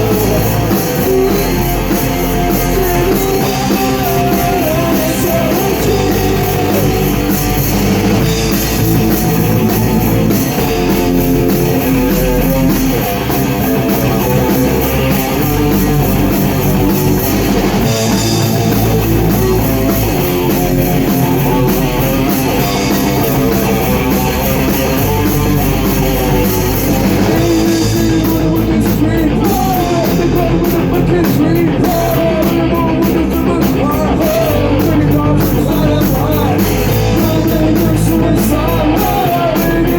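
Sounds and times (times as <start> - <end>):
bass guitar: 0.0 - 39.9
drum kit with cymbals: 0.0 - 39.9
electric guitar: 0.0 - 39.9
person singing: 0.0 - 39.9.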